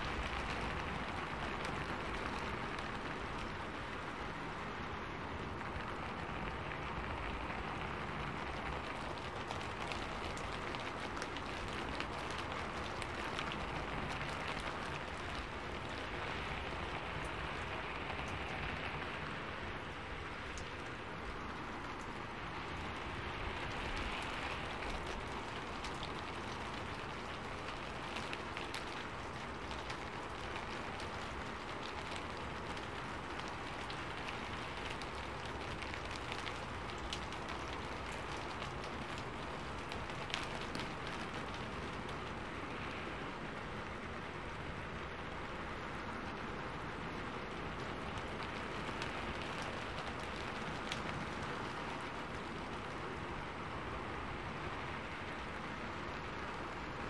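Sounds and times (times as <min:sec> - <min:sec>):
rain hissing: 0:00.0 - 0:57.0
raindrops tapping close by: 0:00.0 - 0:57.0.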